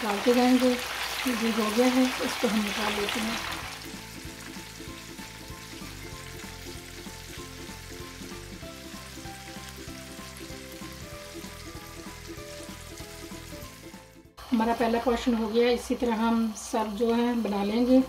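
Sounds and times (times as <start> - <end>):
patties sizzling in hot oil: 0.0 - 18.0
soft background music: 1.4 - 18.0.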